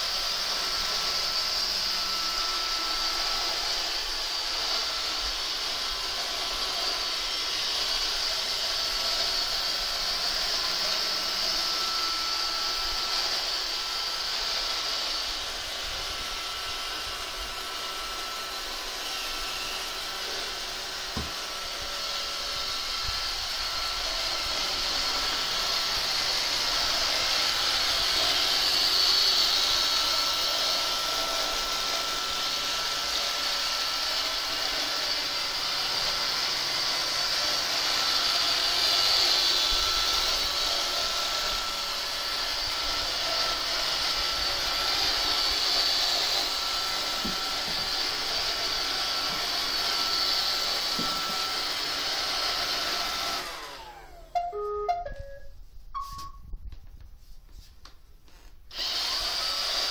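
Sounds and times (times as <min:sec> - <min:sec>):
robot vacuum whirring: 0:00.0 - 0:54.7, 0:58.4 - 0:59.9.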